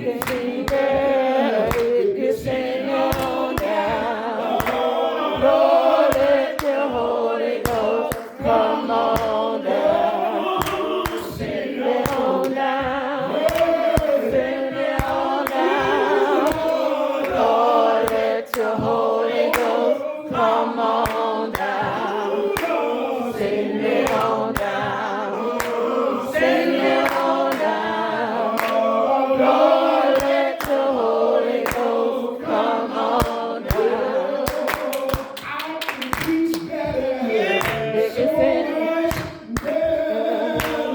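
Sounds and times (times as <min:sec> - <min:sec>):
claps keeping the beat: 0:00.0 - 0:40.9
congregation singing a hymn: 0:00.0 - 0:40.9.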